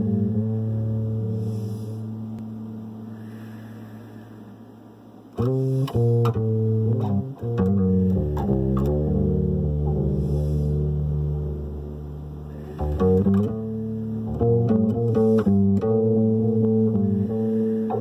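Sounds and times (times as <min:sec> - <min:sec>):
electric bass guitar: 0:00.0 - 0:04.3, 0:05.3 - 0:18.0.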